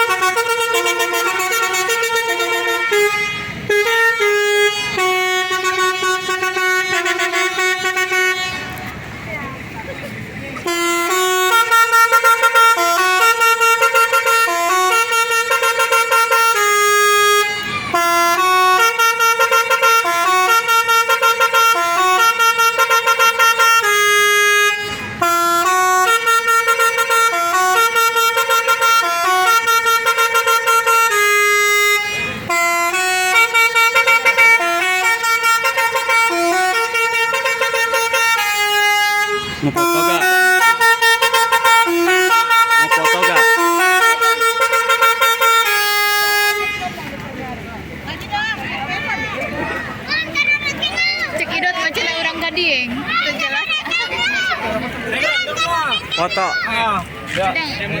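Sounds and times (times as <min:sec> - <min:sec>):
multi-tone bus horn tune: 0:00.0 - 0:56.5.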